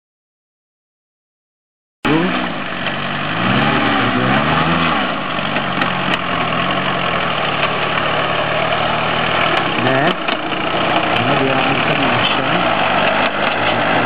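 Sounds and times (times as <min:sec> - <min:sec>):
garden tractor engine running: 0:02.1 - 0:14.0.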